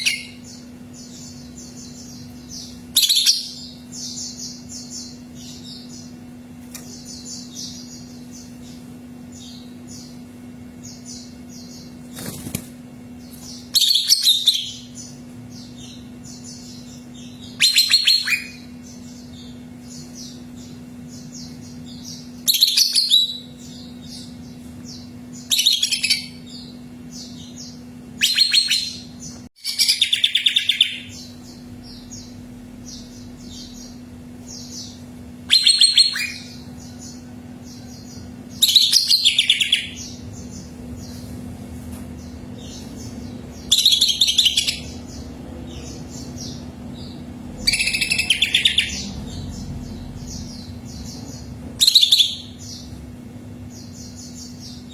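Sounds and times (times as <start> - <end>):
bird singing loud phrases: 0.0 - 41.2, 42.2 - 54.9
steady low hum: 0.0 - 54.9.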